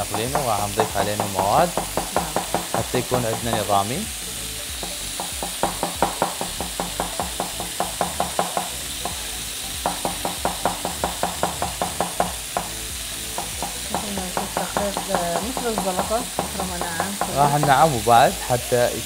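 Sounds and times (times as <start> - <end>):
knife chopping on cutting board: 0.0 - 3.8, 4.8 - 9.2, 9.8 - 12.8, 13.4 - 17.9
skewers sizzling in a pan: 0.0 - 19.0.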